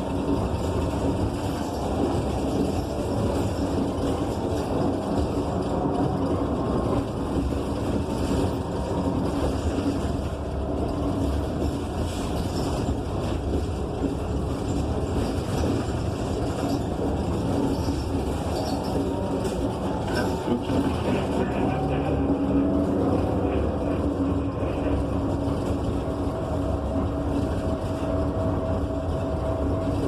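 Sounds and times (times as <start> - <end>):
bus engine running: 0.0 - 30.0
road noise: 0.0 - 30.0.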